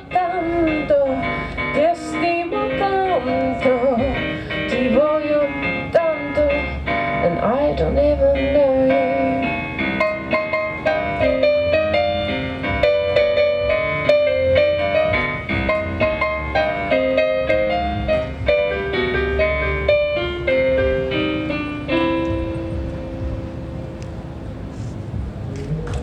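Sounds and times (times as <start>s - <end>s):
piano playing: 0.0s - 25.8s.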